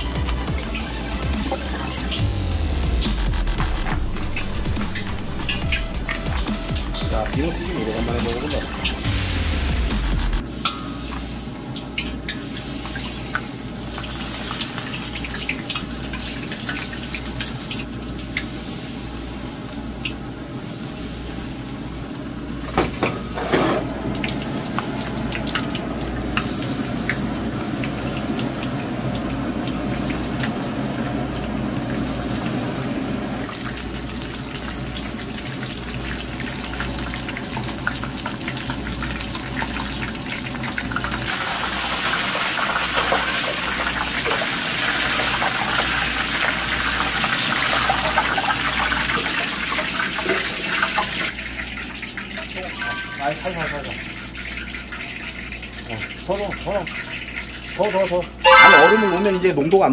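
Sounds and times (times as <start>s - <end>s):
fish deep-frying in oil: 0.0s - 59.9s.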